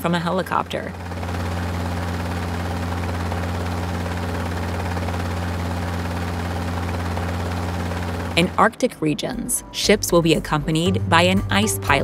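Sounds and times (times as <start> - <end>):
helicopter hovering overhead: 0.0 - 12.0.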